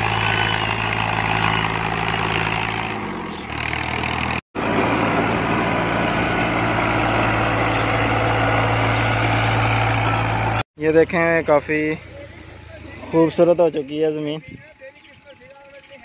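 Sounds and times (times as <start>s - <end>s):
diesel tractor engine: 0.0s - 15.9s.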